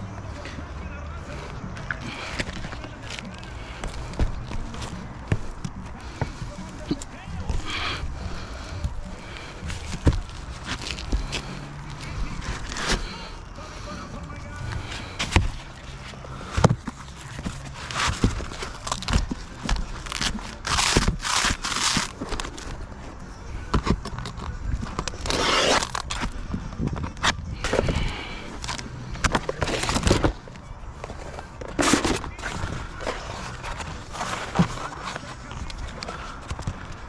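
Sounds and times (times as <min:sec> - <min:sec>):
shingles scraping and tearing: 0:01.3 - 0:23.0, 0:23.6 - 0:37.0.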